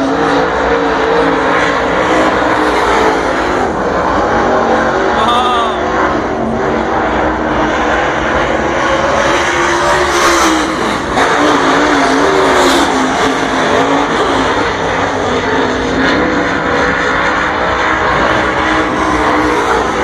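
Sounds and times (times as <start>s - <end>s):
race car engine at speed: 0.0s - 20.0s.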